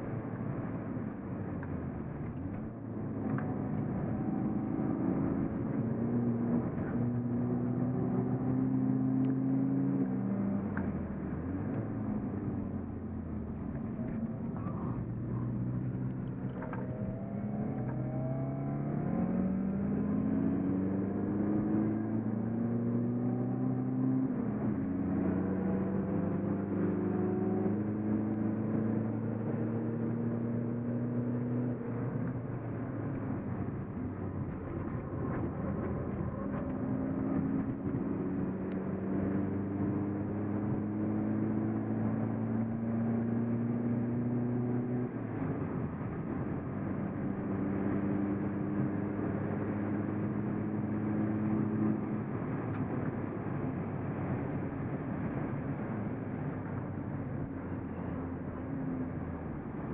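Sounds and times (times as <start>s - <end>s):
tyre and road noise: 0.0s - 59.9s
diesel engine accelerating: 1.4s - 59.9s.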